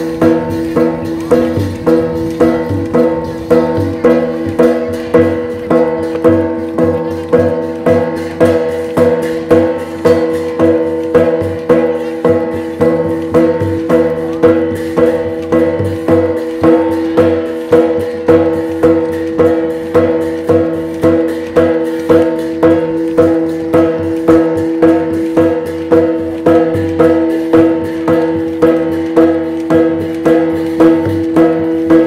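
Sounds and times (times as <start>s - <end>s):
drum and gongs beating: 0.0s - 32.0s.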